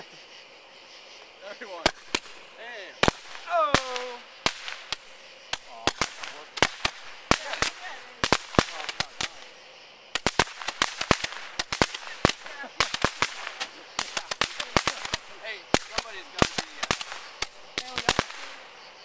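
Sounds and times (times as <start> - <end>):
roman candles popping: 1.8 - 9.5, 10.1 - 18.6.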